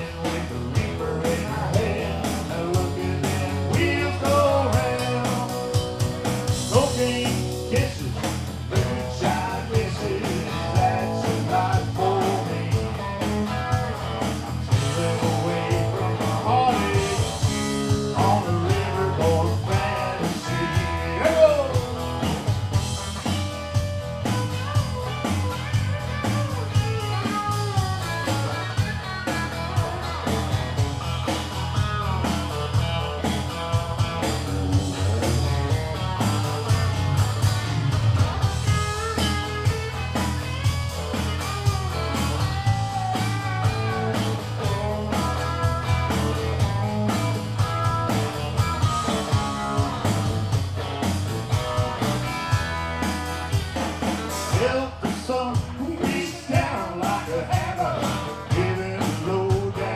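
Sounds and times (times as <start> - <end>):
bass line: 0.0 - 59.9
drums: 0.0 - 59.9
lead guitar with bending notes: 0.0 - 59.9.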